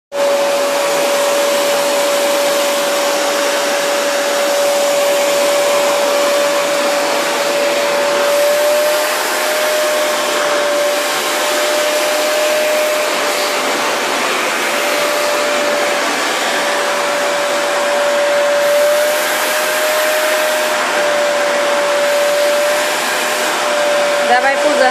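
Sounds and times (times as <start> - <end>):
vacuum cleaner running: 0.1 - 24.9.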